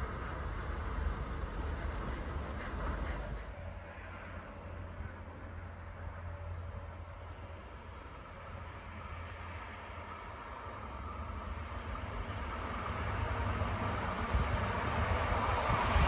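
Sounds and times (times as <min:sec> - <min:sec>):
train approaching on track: 0:00.0 - 0:16.0.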